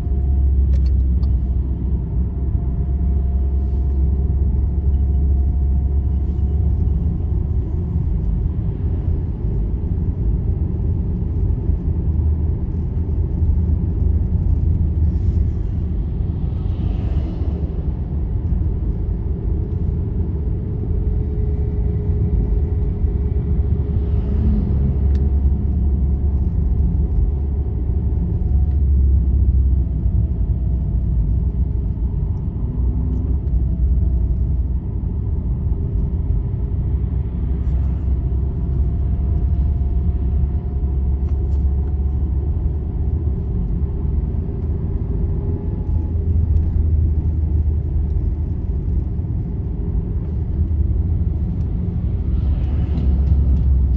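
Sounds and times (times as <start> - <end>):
vehicle engine and tyres rumbling: 0.0 - 53.9.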